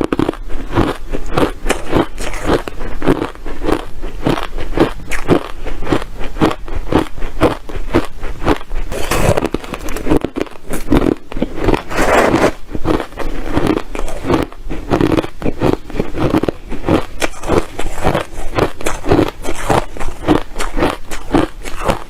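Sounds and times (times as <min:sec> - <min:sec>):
ice chips crunching: 0:00.0 - 0:22.0.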